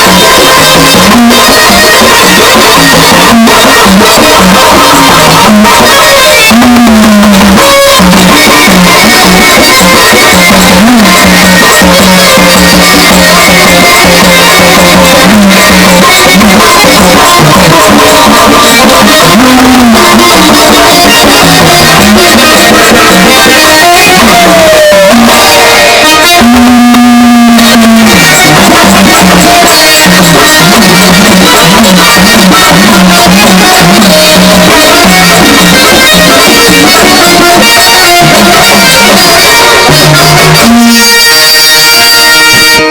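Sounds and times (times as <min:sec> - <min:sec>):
drum beat: 0:00.0 - 0:41.0.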